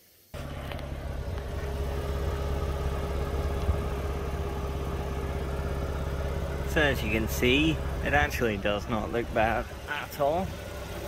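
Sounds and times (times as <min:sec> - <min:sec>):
car engine idling: 0:00.4 - 0:11.0.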